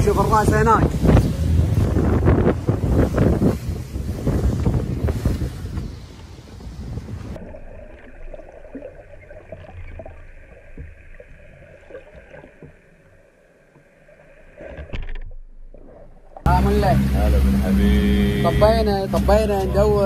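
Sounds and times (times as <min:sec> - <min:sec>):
underwater rumble of moving water: 0:00.0 - 0:06.1, 0:07.0 - 0:20.0.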